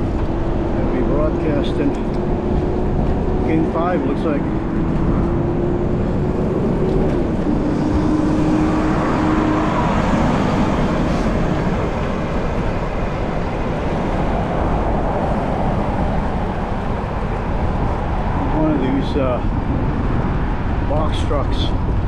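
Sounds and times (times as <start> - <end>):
passing vehicle hum: 0.0 - 22.0
road traffic noise: 0.0 - 22.0
wind rush: 0.0 - 22.0.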